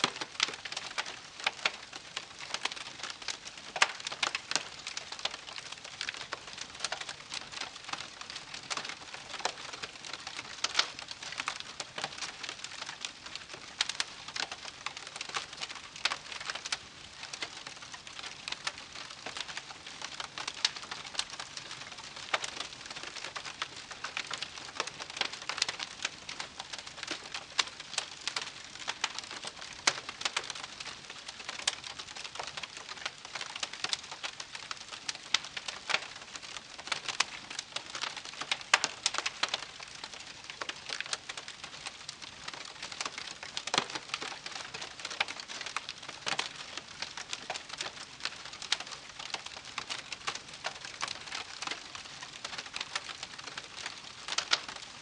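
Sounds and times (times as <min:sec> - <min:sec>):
campfire crackling and popping: 0:00.0 - 0:55.0
soft hiss of burning wood: 0:00.0 - 0:55.0.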